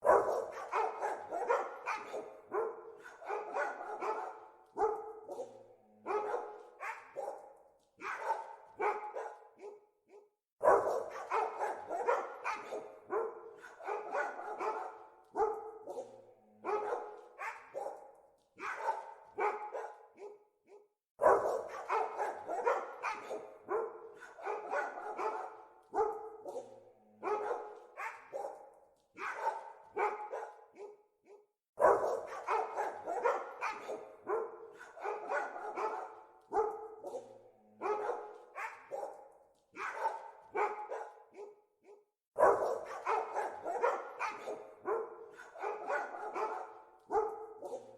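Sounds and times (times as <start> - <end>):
dogs barking: 0.0 - 47.9.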